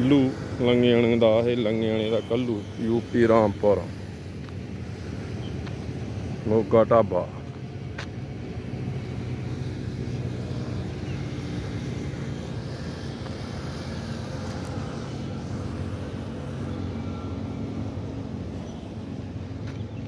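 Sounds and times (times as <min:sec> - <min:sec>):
low engine hum: 0:00.0 - 0:20.0
road traffic noise: 0:00.0 - 0:20.0.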